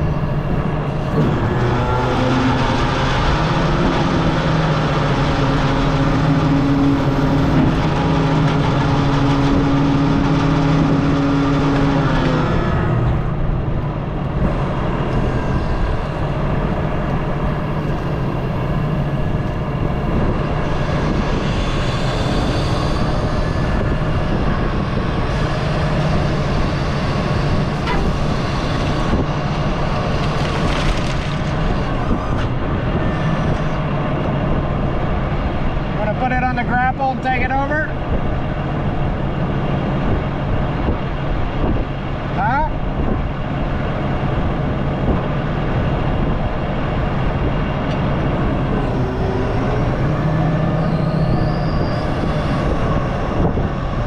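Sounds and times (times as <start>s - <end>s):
diesel engine running hard: 0.0s - 54.0s
hydraulic whine: 0.0s - 54.0s.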